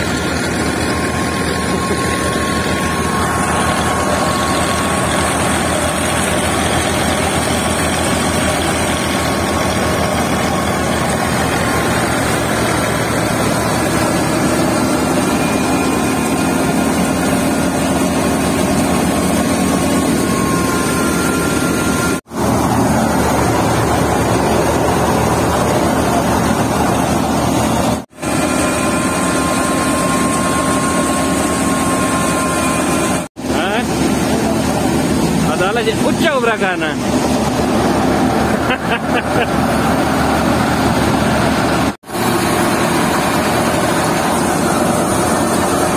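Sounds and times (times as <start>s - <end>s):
thresher drum and fan churning: 0.0s - 45.9s
tractor engine: 0.0s - 45.9s.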